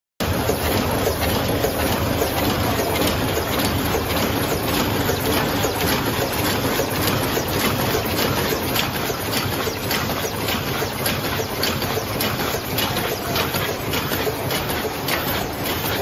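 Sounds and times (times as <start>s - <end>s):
low machine hum: 0.2s - 16.0s
machine clattering with fast clicks: 0.2s - 16.0s.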